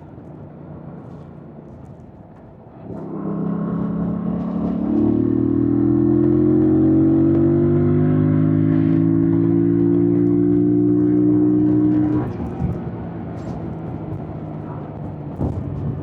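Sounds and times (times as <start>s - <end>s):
motorcycle engine accelerating: 2.8s - 16.0s.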